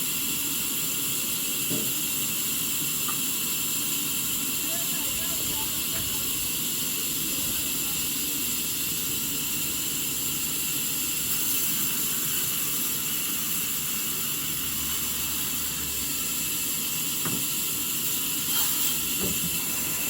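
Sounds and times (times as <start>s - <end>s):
sawmill machinery whirring: 0.0s - 20.0s.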